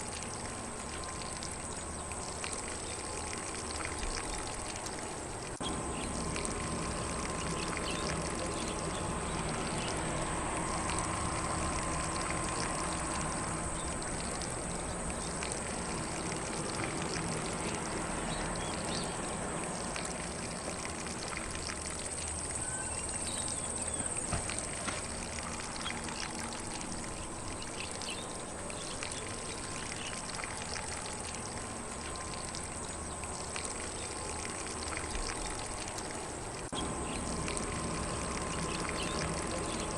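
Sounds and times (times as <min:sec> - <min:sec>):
sprinkler spraying water: 0:00.0 - 0:39.9.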